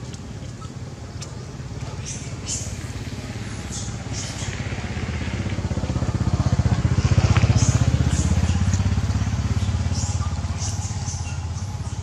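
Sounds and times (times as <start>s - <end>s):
small engine running: 2.1s - 12.0s.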